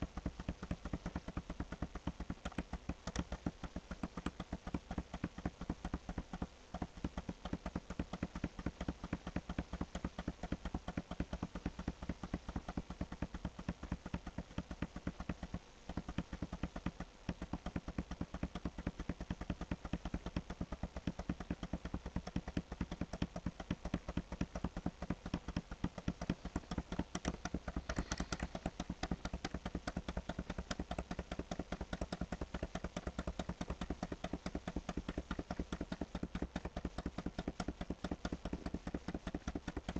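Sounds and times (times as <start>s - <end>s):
computer mouse clicking: 0.0s - 39.9s
low steady hum: 0.0s - 39.9s.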